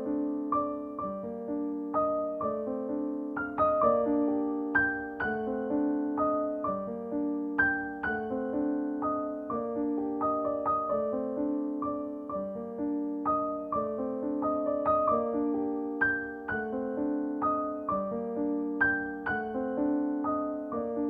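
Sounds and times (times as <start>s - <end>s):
soft solo piano music: 0.0s - 21.0s.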